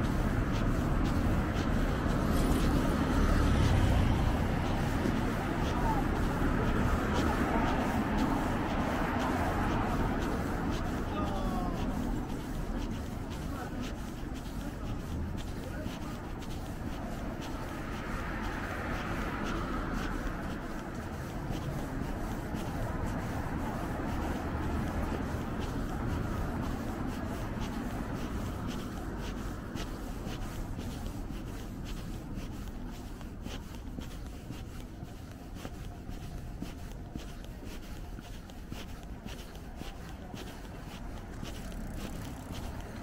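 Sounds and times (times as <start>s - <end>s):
footstep ticks and scuffs: 0.0s - 43.0s
traffic rumble: 0.0s - 43.0s.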